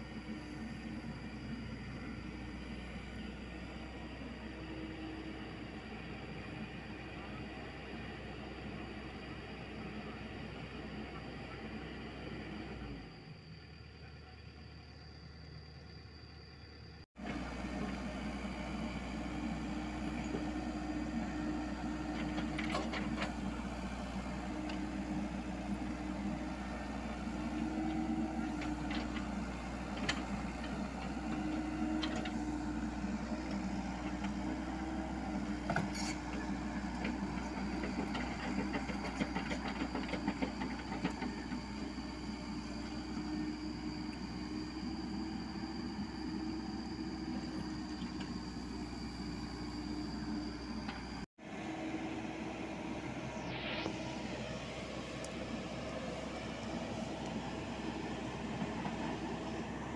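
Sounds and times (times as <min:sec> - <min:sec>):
excavator diesel engine running: 0:00.0 - 0:15.0, 0:16.8 - 0:59.9.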